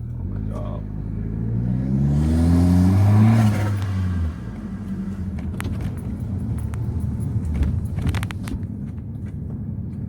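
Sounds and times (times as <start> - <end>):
car exhaust accelerating: 0.0 - 10.0.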